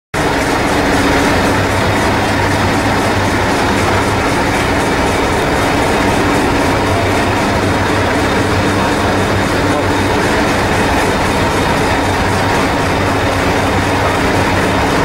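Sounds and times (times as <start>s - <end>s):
train diesel engine idling: 0.2s - 15.0s.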